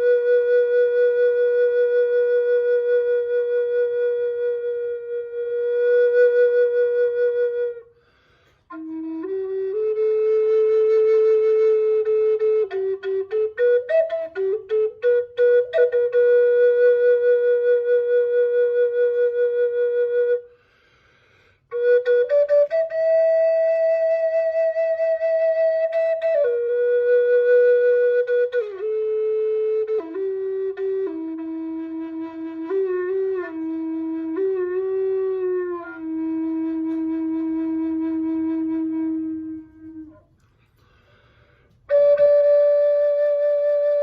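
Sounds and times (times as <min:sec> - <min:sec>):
solo flute melody: 0:00.0 - 0:44.0.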